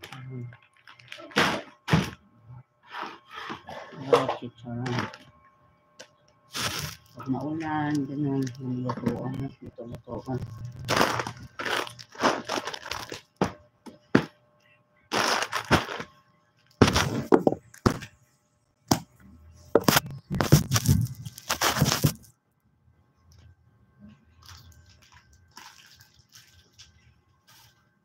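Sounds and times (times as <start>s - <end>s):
crackling and rustling handling noise: 0.0s - 2.2s, 2.8s - 18.2s, 19.6s - 22.4s, 24.3s - 28.0s.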